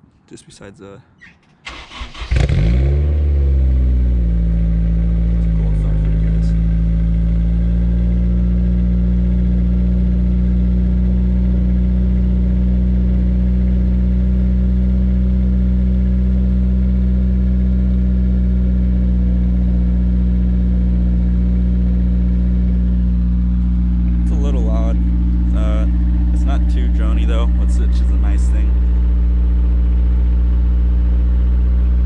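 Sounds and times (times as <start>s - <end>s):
car engine idling: 1.7s - 32.0s.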